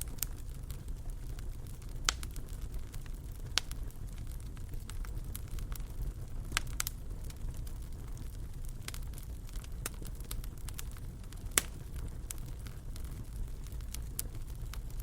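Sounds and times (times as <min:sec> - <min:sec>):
wood fire crackling in fireplace: 0:00.0 - 0:15.0.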